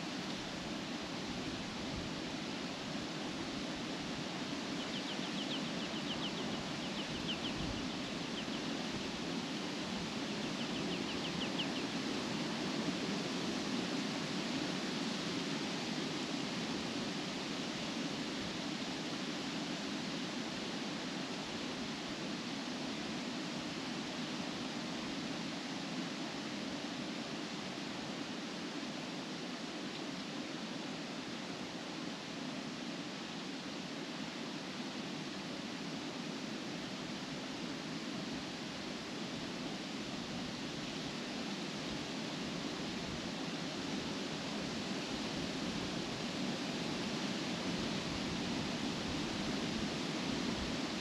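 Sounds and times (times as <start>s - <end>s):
wind rustling leaves: 0.0s - 51.0s.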